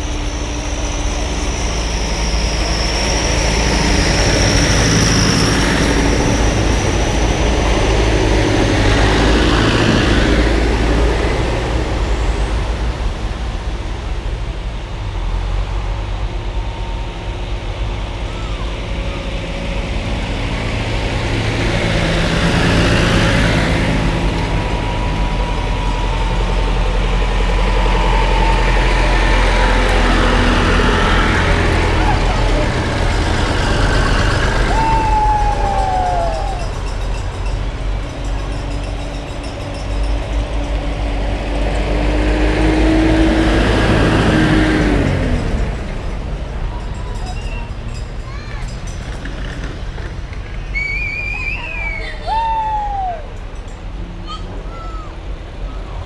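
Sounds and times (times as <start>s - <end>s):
tractor engines driving past: 0.0s - 56.0s.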